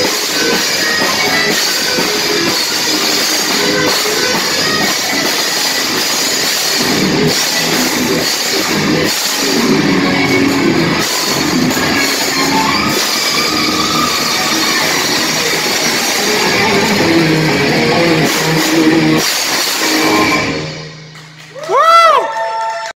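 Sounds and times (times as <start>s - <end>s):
live rock band playing: 0.0s - 21.4s.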